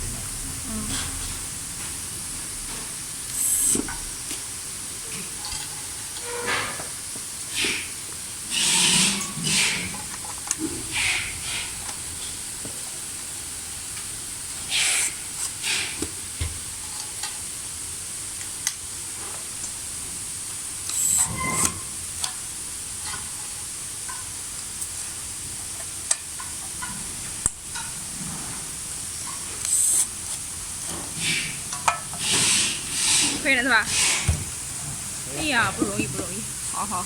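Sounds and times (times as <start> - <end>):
steady hiss: 0.0 - 37.0.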